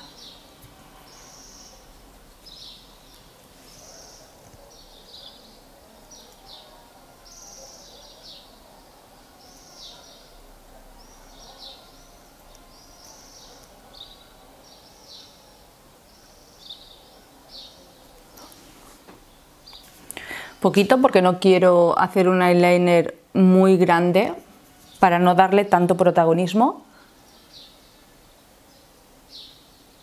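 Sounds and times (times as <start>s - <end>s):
faint room noise: 0.0s - 30.0s.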